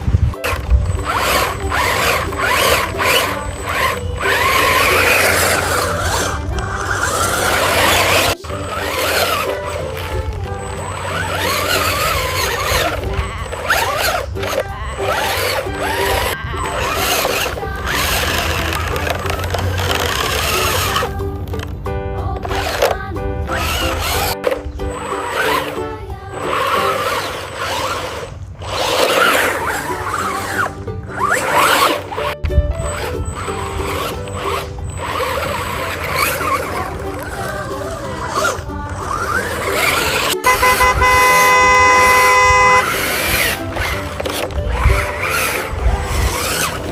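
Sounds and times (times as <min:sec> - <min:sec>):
background music: 0:00.0 - 0:46.9
pitch gliding sound effects: 0:00.0 - 0:46.9.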